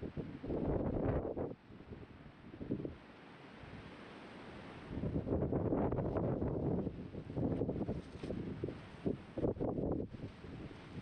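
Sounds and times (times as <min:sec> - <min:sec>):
wind buffeting microphone: 0:00.0 - 0:03.0, 0:04.8 - 0:11.0.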